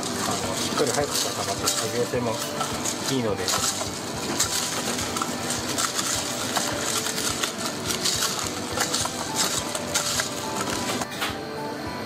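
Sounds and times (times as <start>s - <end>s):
spatula scraping a metal bowl: 0.0s - 11.0s.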